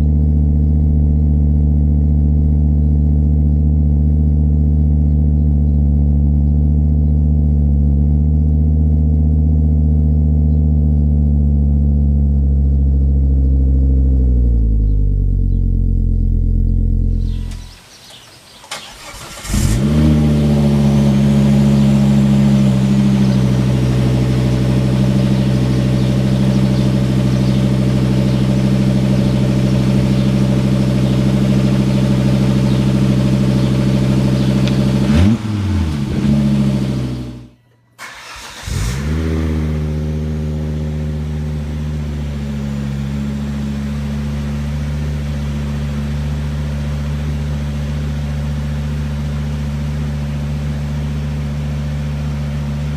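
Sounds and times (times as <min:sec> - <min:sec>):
car engine starting and idling: 0:00.0 - 0:52.9.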